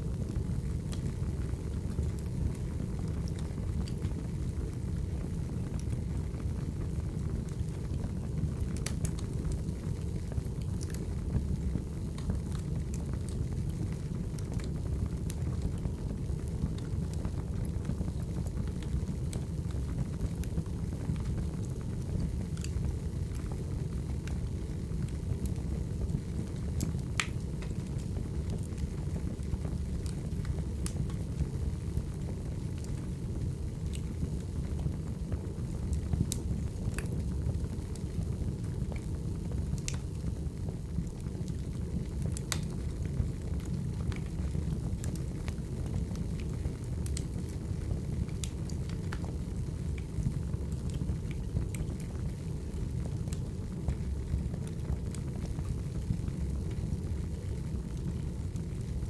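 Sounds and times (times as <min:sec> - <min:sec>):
low rumble of flames: 0:00.0 - 0:59.0
firewood crackling and popping: 0:00.1 - 0:59.0.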